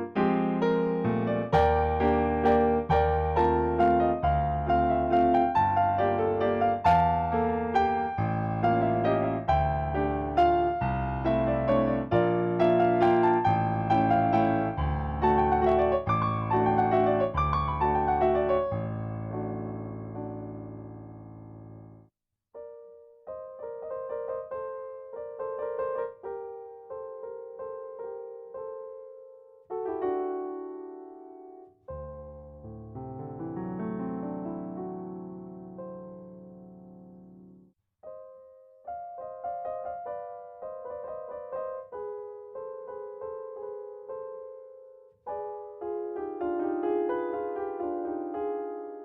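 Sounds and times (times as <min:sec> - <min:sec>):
gentle piano melody: 0:00.0 - 0:49.0.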